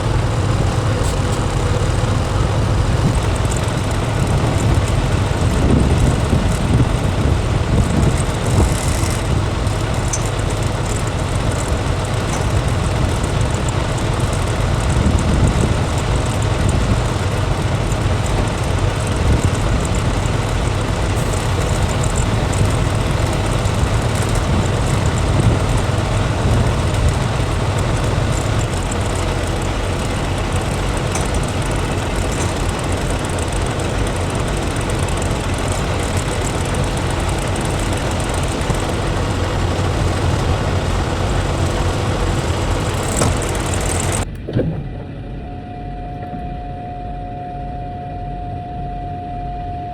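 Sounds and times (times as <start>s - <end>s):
road noise: 0.0s - 45.6s
truck engine drone: 0.0s - 49.9s.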